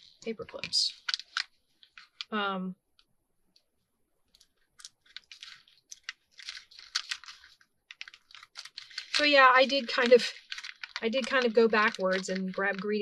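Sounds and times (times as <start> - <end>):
plastic sheet crinkling: 0.0 - 2.4, 4.3 - 13.0.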